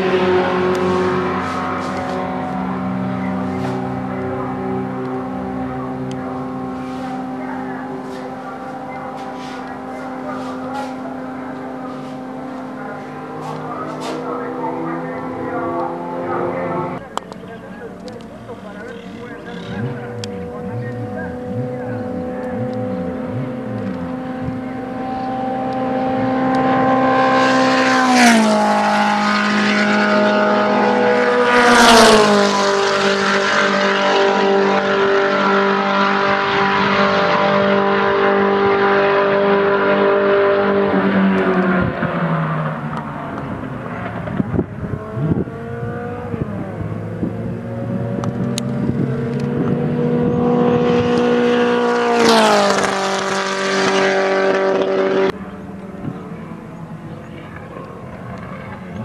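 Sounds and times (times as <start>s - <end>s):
distant race car engines: 0.0s - 59.0s
race car engines passing: 0.0s - 59.0s.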